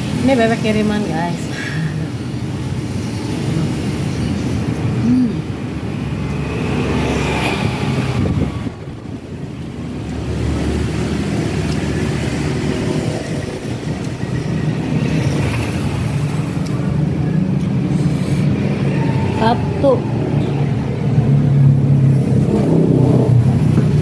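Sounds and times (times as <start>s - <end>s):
traffic engine rumble: 0.0s - 24.0s.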